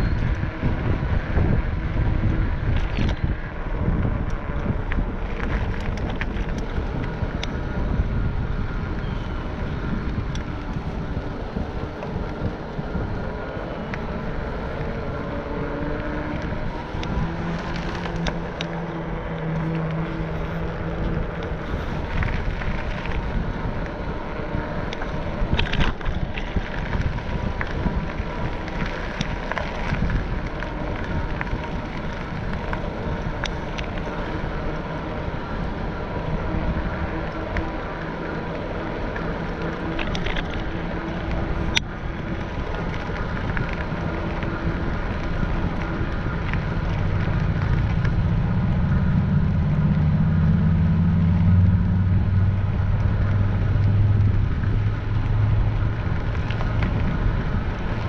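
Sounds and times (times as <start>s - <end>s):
road rumble: 0.0s - 58.0s
wind buffeting microphone: 0.0s - 58.0s.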